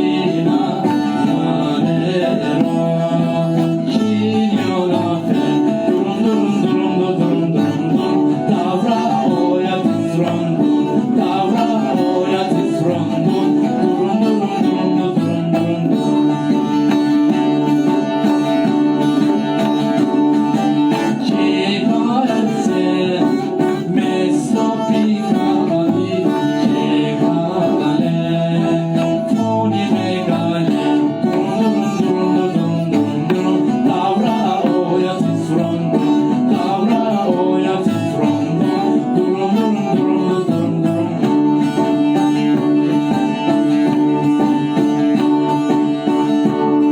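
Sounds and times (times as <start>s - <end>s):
person singing: 0.0s - 46.9s
plucked string instruments: 0.0s - 46.9s.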